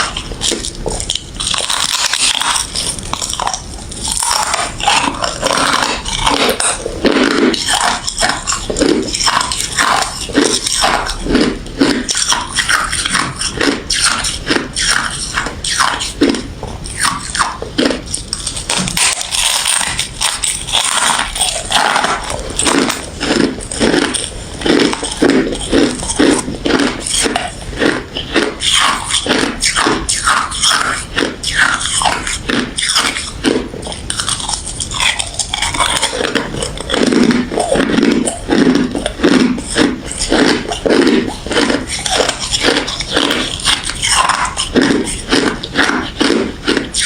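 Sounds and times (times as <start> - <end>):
ice being chewed: 0.0 - 47.0.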